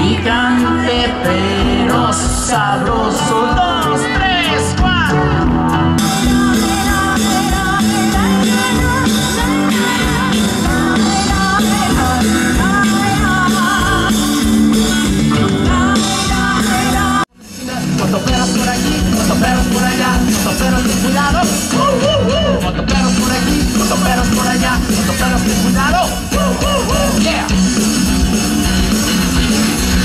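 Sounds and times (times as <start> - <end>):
live rock band music: 0.0 - 30.0.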